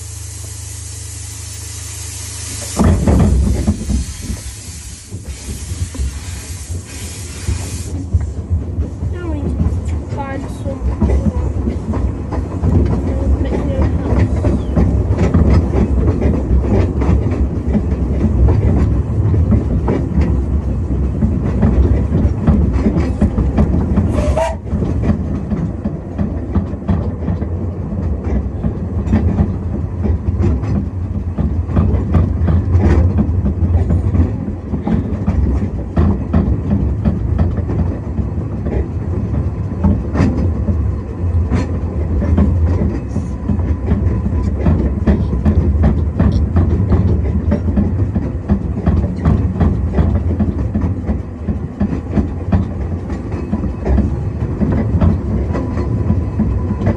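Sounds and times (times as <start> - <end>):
railway carriage rumble: 0.0 - 56.9
wheels clicking over rails: 8.0 - 56.9.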